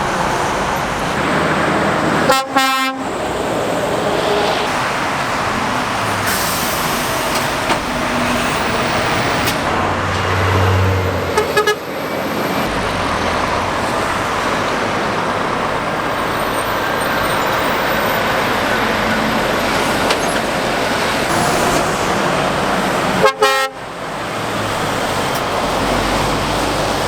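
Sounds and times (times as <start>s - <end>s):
heavy road traffic rushing: 0.0s - 27.0s
truck engine passing: 0.0s - 27.0s.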